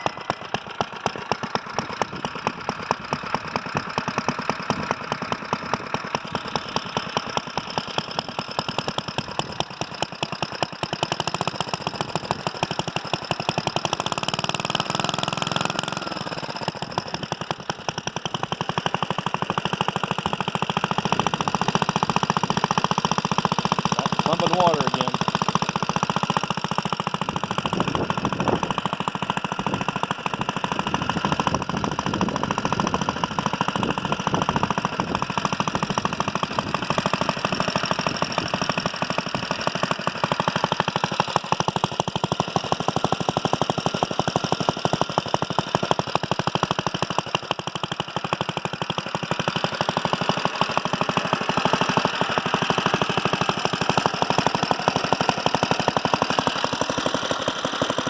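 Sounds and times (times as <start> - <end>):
single-cylinder engine running: 0.0 - 58.0.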